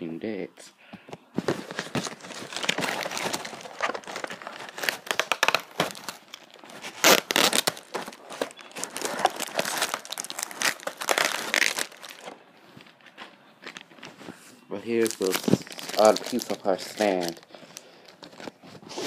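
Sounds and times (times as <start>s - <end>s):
plastic packaging crinkling: 1.4s - 19.0s.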